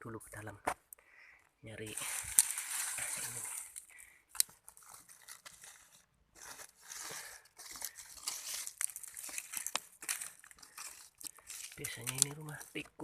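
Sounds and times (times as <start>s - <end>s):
dry debris rustling and crunching: 1.8s - 13.0s.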